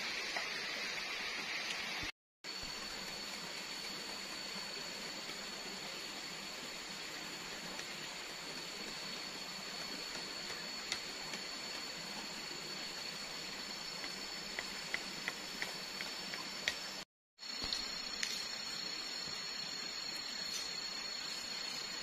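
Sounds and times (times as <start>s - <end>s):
stream running: 0.0s - 22.0s.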